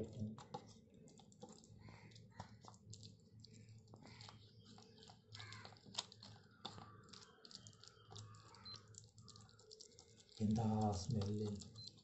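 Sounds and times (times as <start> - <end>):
wet squelches of kneading meat: 0.0 - 12.0.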